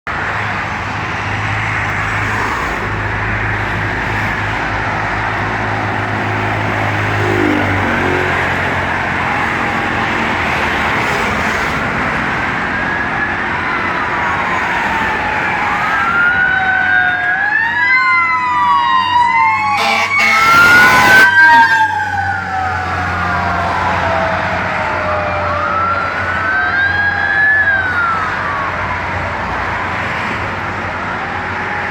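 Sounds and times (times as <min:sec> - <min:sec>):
engine drone and road noise: 0:00.0 - 0:31.9
fire engine siren wailing: 0:00.2 - 0:31.9.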